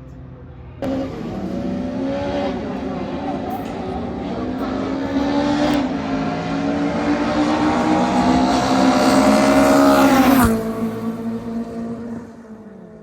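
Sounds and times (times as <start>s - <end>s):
drag racing car engine at high revs: 0.8s - 13.0s.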